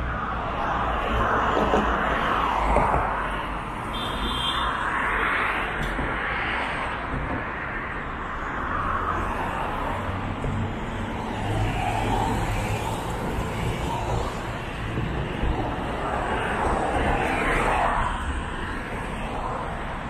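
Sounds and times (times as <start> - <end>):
low traffic rumble: 0.0 - 20.0.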